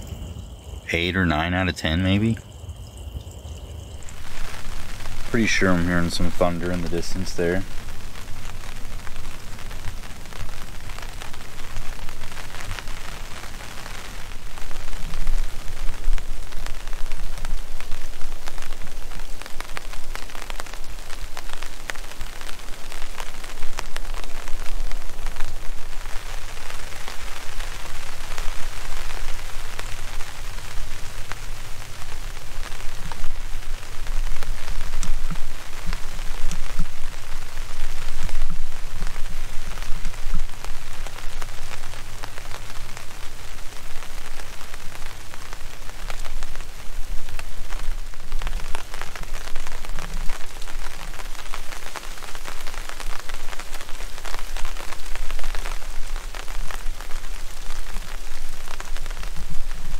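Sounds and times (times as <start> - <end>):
rain drops ticking: 0.0 - 59.9.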